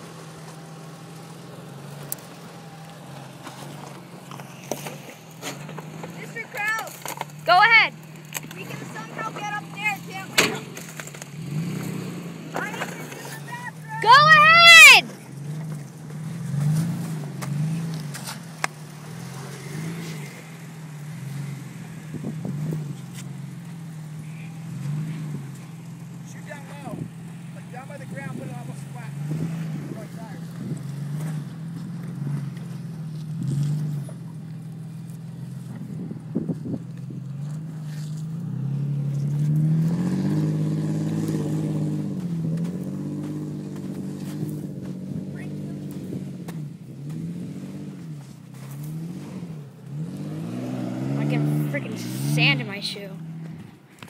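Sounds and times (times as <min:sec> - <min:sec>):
car engine at low revs: 0:00.0 - 0:54.0.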